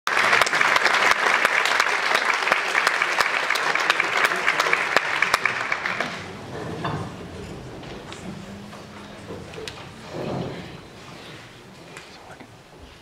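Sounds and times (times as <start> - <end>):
audience applauding: 0.1 - 12.1.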